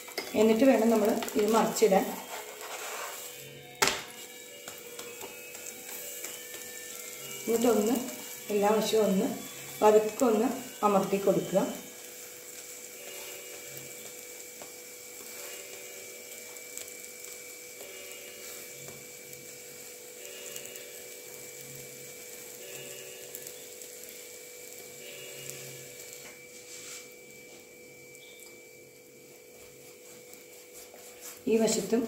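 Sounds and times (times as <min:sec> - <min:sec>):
flatbread sizzling in a pan: 0:00.0 - 0:32.0
electrical hum: 0:03.3 - 0:32.0.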